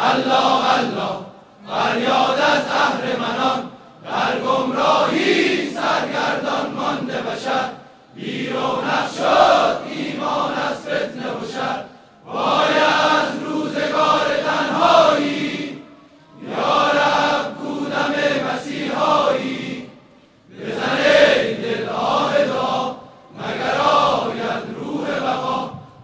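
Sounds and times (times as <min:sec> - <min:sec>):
crowd of men chanting in unison: 0:00.0 - 0:26.0.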